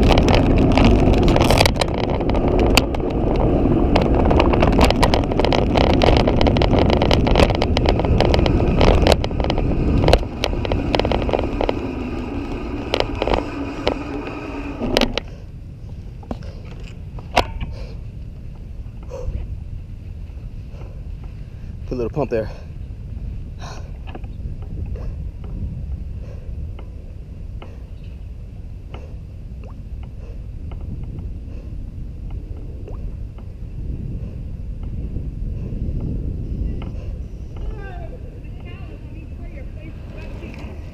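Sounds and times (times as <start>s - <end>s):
bicycle clicks and rattles: 0.0s - 19.2s, 23.6s - 29.2s, 29.9s - 40.9s
wind rushing over microphone: 0.0s - 40.9s.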